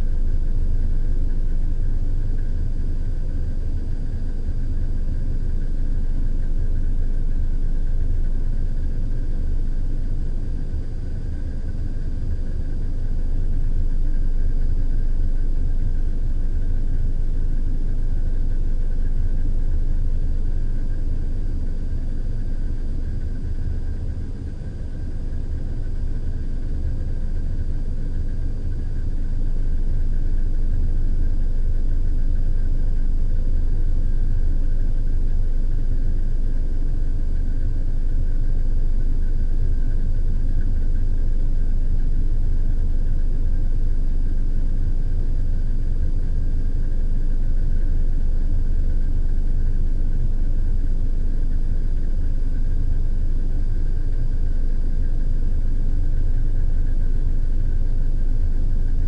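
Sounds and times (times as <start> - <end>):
deep machinery rumble: 0.0 - 59.0
faint thin whine: 0.0 - 59.0.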